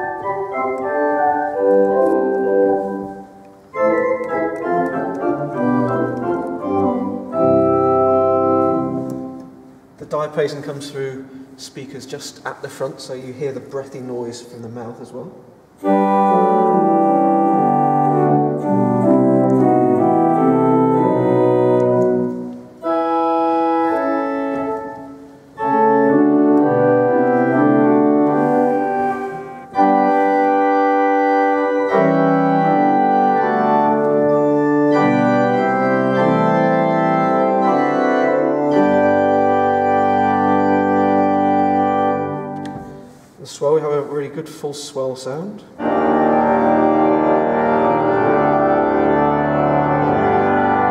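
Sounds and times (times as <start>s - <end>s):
organ playing sustained chords: 0.0s - 11.4s, 15.8s - 43.8s, 45.8s - 50.9s.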